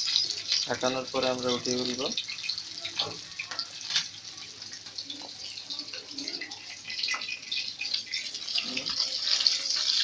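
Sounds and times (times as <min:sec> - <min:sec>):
fish sizzling in wok: 0:00.0 - 0:10.0.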